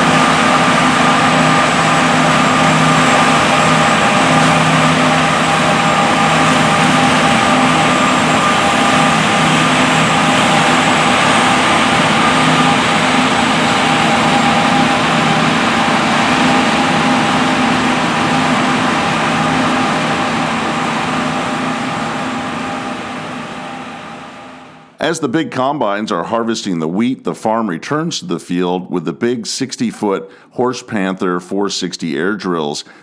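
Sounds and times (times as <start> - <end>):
combine harvester engine drone: 0.0 - 28.3
steady high whine: 0.0 - 33.0.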